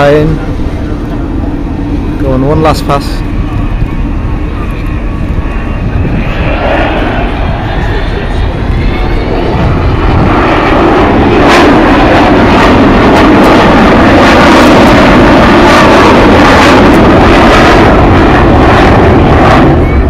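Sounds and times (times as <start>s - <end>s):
jet aircraft roaring overhead: 0.0s - 20.0s.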